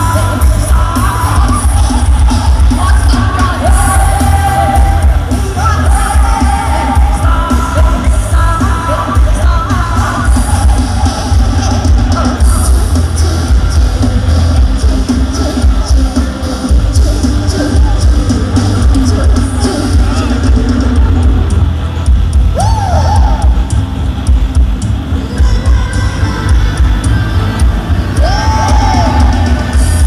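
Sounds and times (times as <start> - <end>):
person singing over band: 0.0 - 21.4, 25.1 - 30.0
distant live band heavy bass: 0.0 - 30.0.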